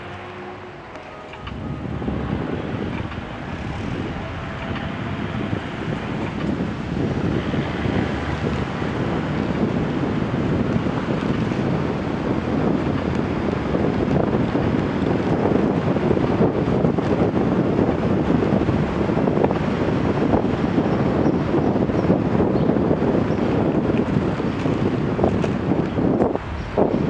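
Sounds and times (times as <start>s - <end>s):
car traffic: 0.0s - 27.0s
wind buffeting microphone: 0.0s - 27.0s.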